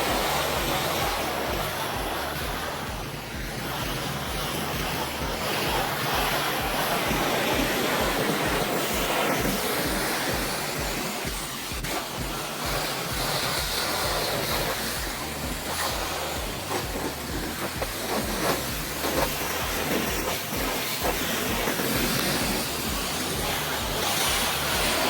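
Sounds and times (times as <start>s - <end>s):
background music with low beat: 0.0s - 25.0s
pressure washer spraying water: 0.0s - 25.0s.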